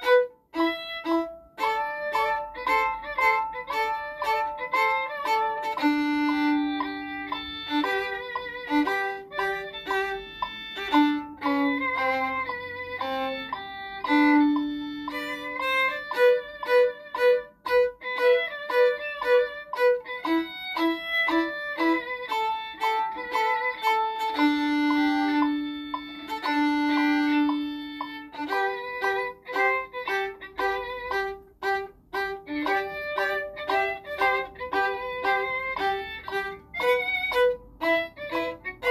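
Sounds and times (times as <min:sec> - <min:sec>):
violin playing a melody: 0:00.0 - 0:38.9.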